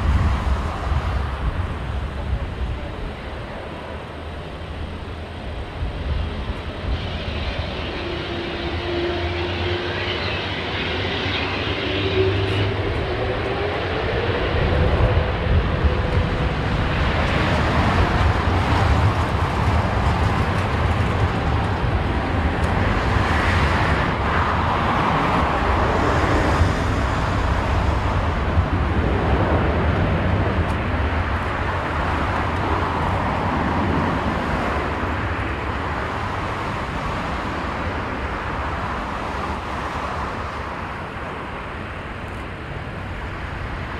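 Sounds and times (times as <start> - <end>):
jet engines roaring at takeoff: 0.0 - 43.9.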